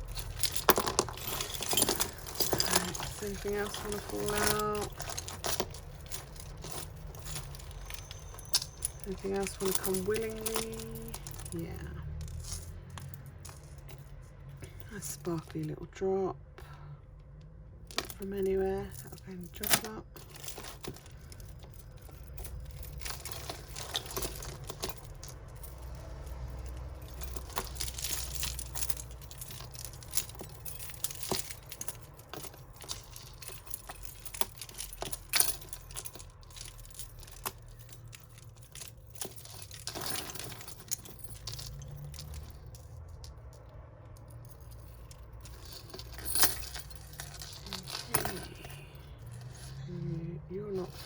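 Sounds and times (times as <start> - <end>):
jewellery clinking and rattling: 0.0 - 51.0.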